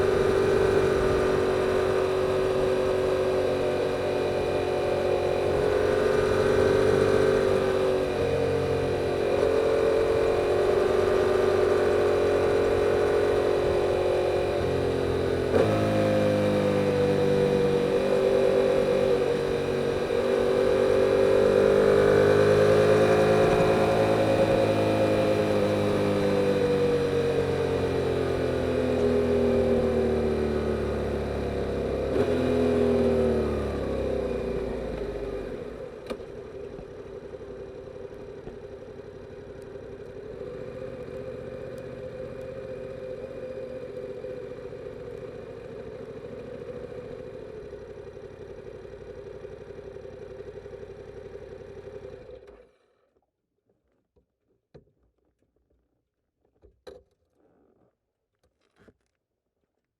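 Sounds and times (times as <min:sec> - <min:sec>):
motorcycle engine running: 0:00.0 - 0:52.7.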